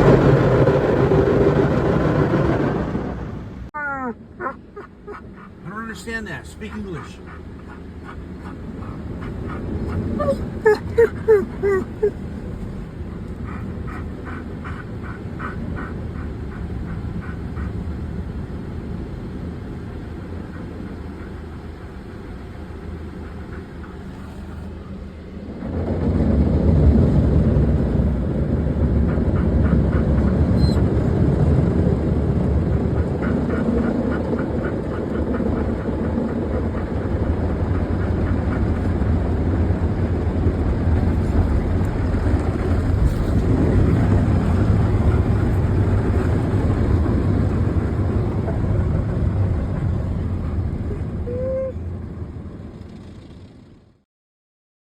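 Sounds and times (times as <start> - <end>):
car wash machinery rumble: 0.0 - 53.9.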